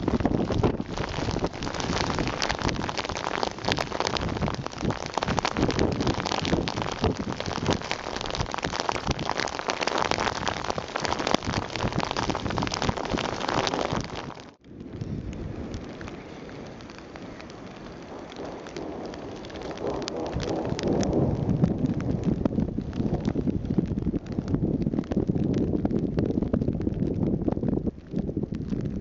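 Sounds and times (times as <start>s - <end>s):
gusty wind: 0.0s - 29.0s
hail pelting down: 0.0s - 29.0s.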